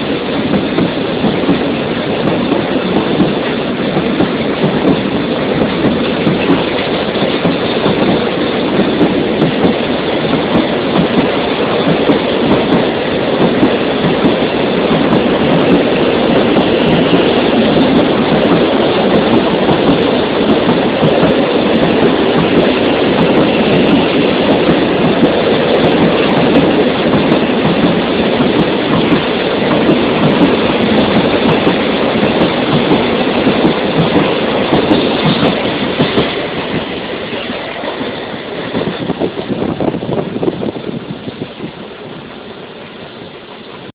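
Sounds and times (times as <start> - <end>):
train wheels rolling on rails: 0.0 - 43.9.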